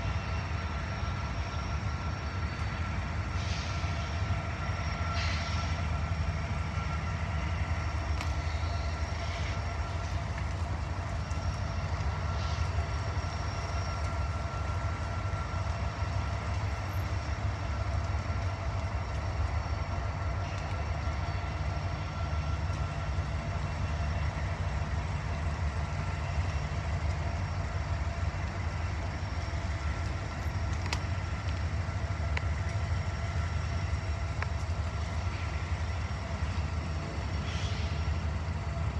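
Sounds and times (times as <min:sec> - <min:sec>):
diesel locomotives rumbling: 0:00.0 - 0:38.9.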